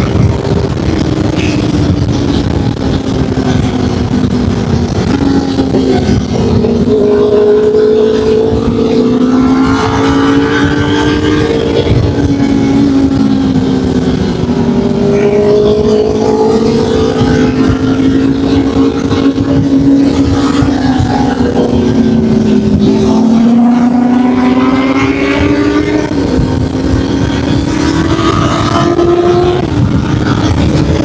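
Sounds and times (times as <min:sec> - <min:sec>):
motorcycle engine at high revs: 0:00.0 - 0:31.0
wind rush on microphone: 0:00.0 - 0:31.0.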